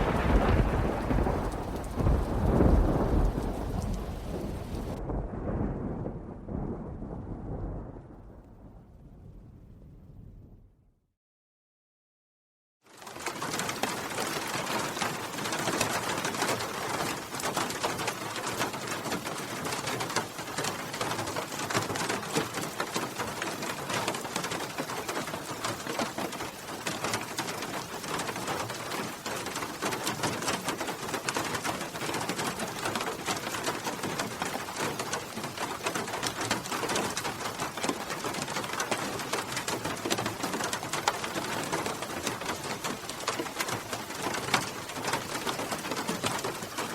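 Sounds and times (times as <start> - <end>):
heavy rain on hard surface: 0.0 - 9.5, 12.8 - 46.9.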